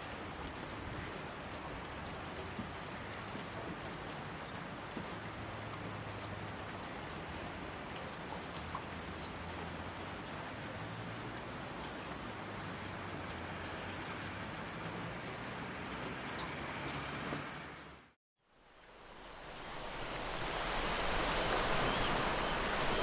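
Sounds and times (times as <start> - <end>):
steady rain falling: 0.0 - 18.0, 18.6 - 23.0.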